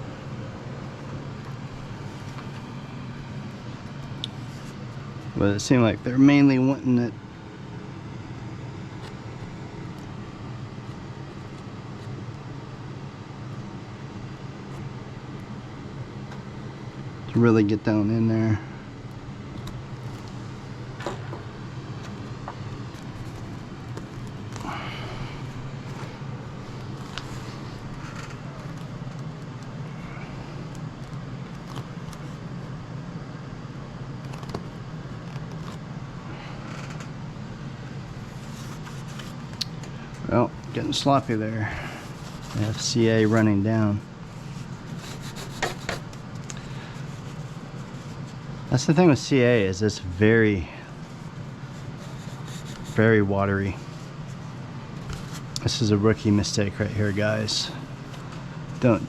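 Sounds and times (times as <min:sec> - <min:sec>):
low hum with hiss: 0:00.0 - 0:59.0.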